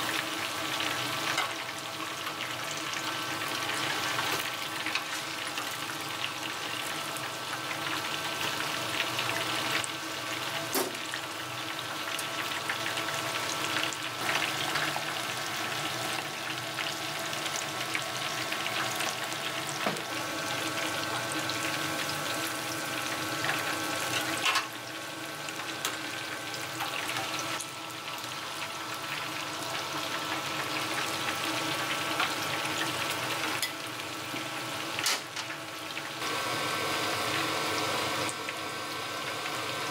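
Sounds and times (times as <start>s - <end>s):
fritter sizzling in hot oil: 0.0s - 39.9s.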